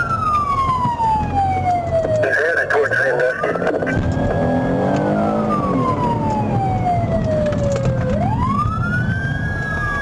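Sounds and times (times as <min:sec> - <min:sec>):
engine and road noise: 0:00.0 - 0:10.0
police siren wailing: 0:00.0 - 0:10.0.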